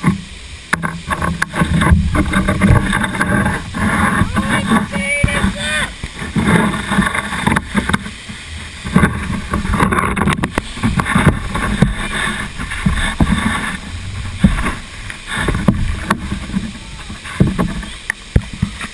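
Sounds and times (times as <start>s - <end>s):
knocks and thumps on camera: 0.0s - 18.9s
waterfall water splashing: 0.0s - 18.9s.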